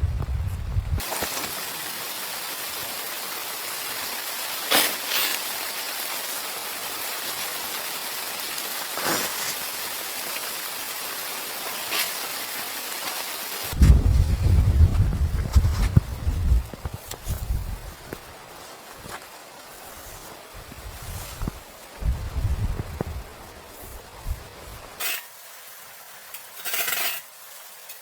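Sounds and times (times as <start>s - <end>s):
rain hissing on a surface: 0.0s - 28.0s.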